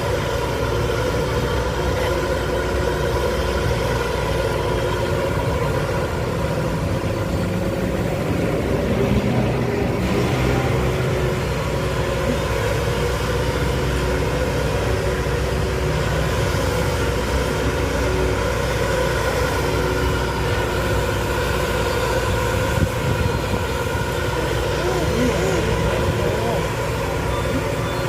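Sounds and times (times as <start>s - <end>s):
backhoe engine running: 0.0s - 28.0s
machine digging soil: 0.0s - 28.0s.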